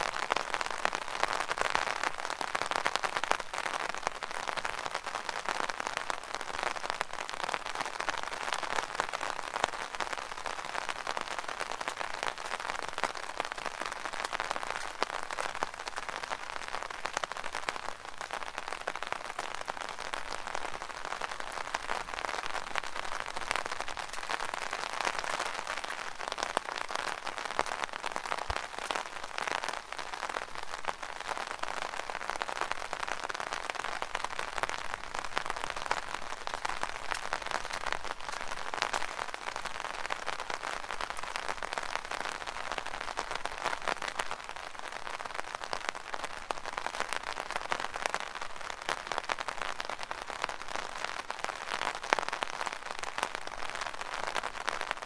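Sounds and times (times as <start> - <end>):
rain pattering on an umbrella: 0.0 - 55.0.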